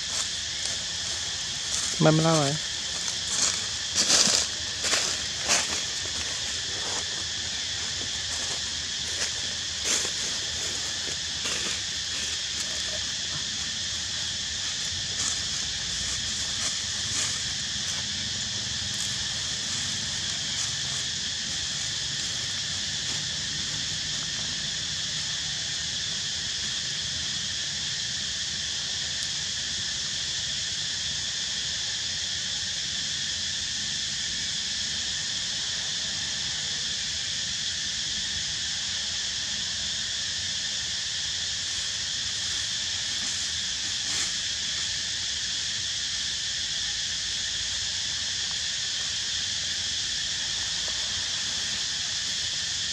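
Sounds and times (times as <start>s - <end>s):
forest insects buzzing: 0.0s - 52.9s.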